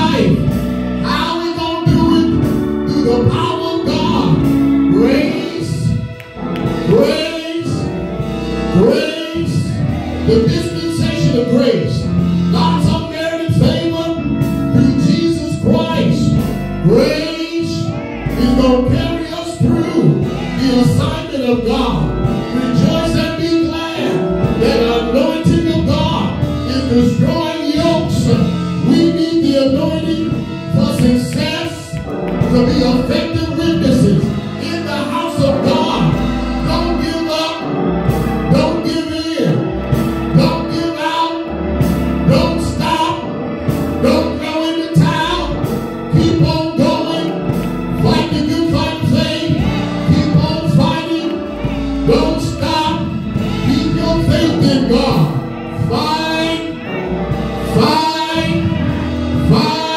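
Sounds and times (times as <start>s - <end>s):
deep bass notes: 0.0s - 59.9s
gospel singing over a band: 0.0s - 59.9s.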